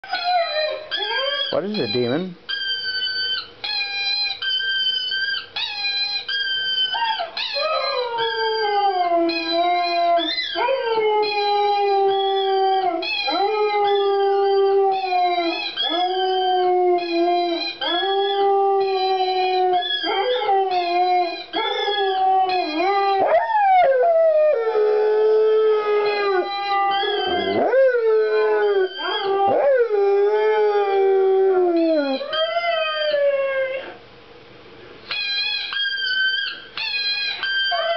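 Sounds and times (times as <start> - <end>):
dog howling: 0.0 - 34.0, 35.1 - 37.9
howling from a video: 0.0 - 34.0, 35.1 - 37.9.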